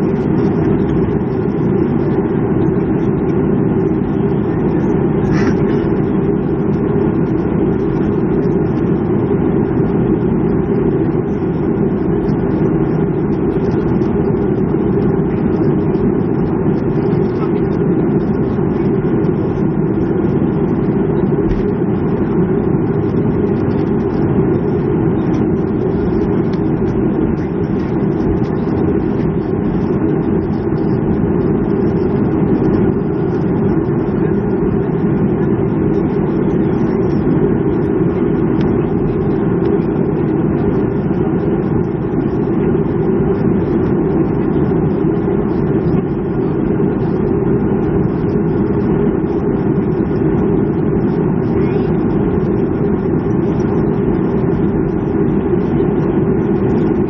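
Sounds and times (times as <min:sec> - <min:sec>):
airliner cabin engine rumble: 0:00.0 - 0:57.0
faint steady whines: 0:00.0 - 0:57.0.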